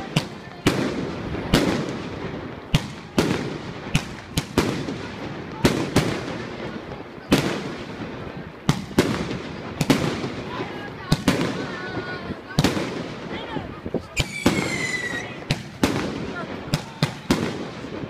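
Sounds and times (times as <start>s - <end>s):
firecrackers banging with echo: 0.0s - 18.0s.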